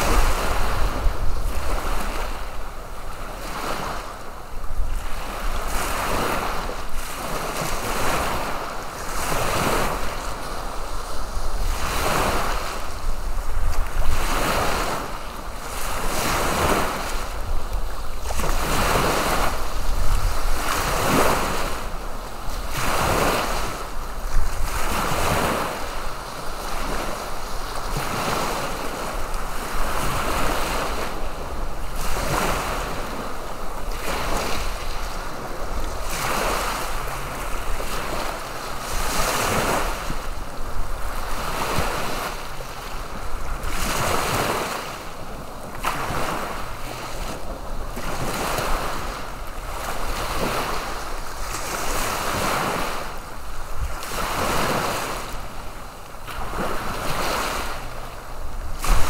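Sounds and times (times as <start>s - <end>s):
low rumble of wind: 0.0s - 59.0s
ocean waves breaking on beach: 0.0s - 59.0s.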